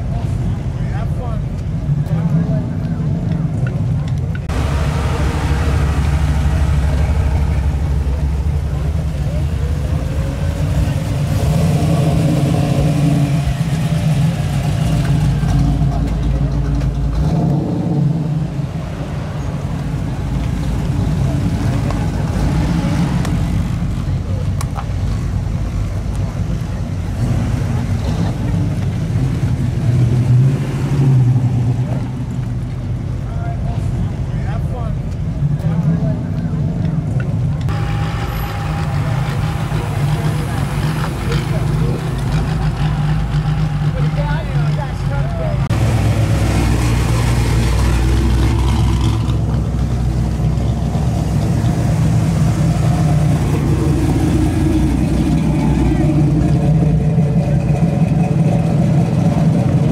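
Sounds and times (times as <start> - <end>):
car engine exhaust rumble: 0.0 - 59.9.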